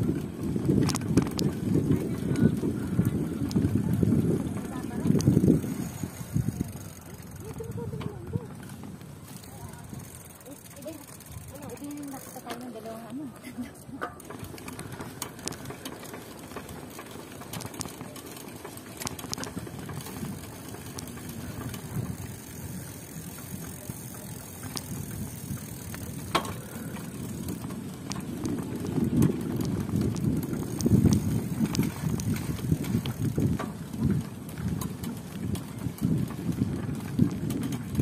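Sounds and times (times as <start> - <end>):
low rumble of bicycle ride: 0.0 - 38.0.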